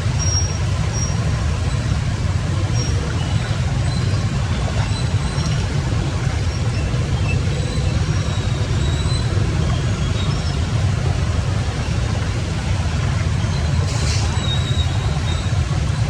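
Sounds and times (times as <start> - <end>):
rush of flowing water: 0.0 - 16.0.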